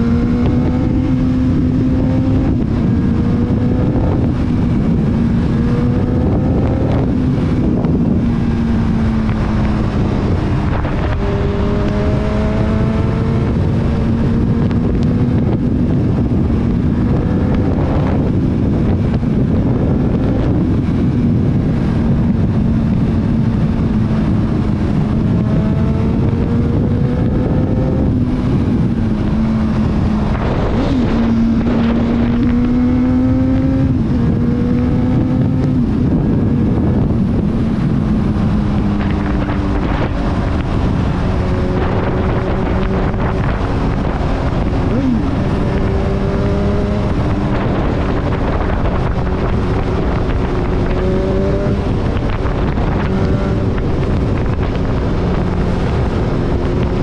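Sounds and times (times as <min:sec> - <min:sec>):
motorcycle engine running: 0:00.0 - 0:57.0
wind rushing: 0:00.0 - 0:57.0.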